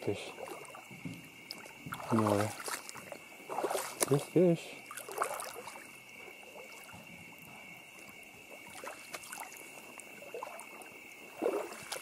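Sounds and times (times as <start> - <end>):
creek water trickling: 0.0 - 12.0
splashes from wading: 0.0 - 12.0.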